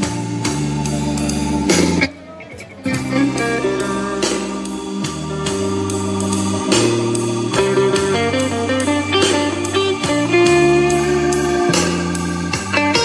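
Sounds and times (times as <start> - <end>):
music with strong bass and beat: 0.0 - 13.0.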